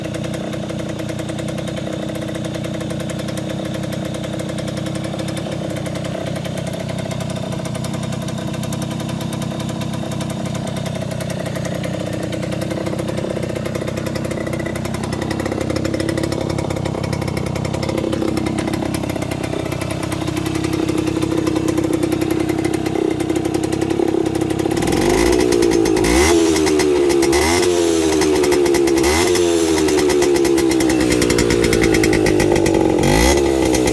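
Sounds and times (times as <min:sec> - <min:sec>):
moped engine idling: 0:00.0 - 0:33.9
moped engine revving: 0:00.0 - 0:33.9.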